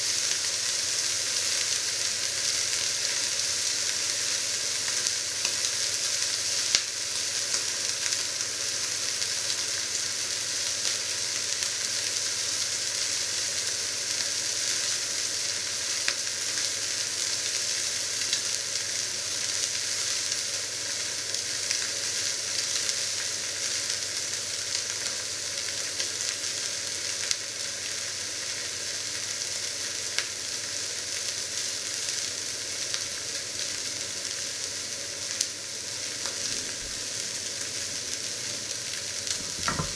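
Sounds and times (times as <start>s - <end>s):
meat sizzling in a pan: 0.0s - 39.9s.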